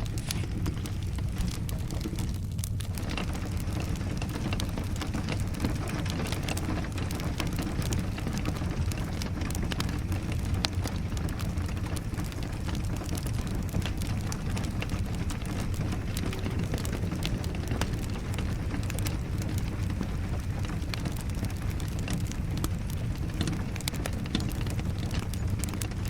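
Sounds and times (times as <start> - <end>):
steady rain: 0.0 - 26.0
wood fire crackling: 0.0 - 26.0.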